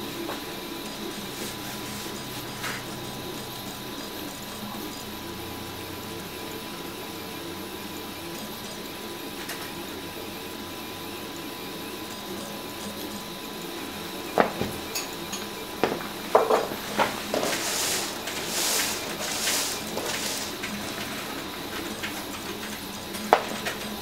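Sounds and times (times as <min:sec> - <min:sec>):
stepper motors humming and whining: 0:00.0 - 0:24.0.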